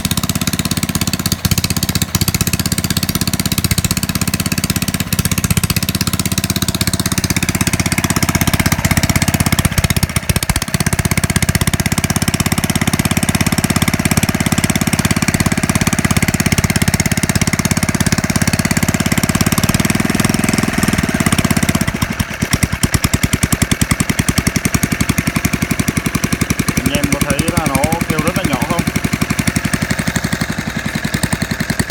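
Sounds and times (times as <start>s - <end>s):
portable generator engine running: 0.0s - 31.9s.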